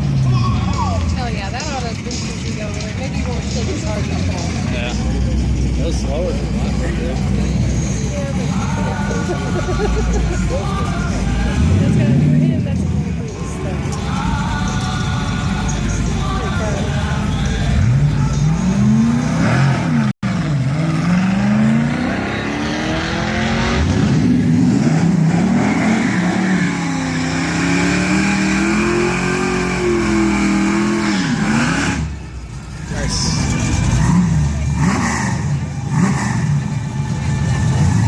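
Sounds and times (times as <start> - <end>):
car engine accelerating hard: 0.0 - 38.0.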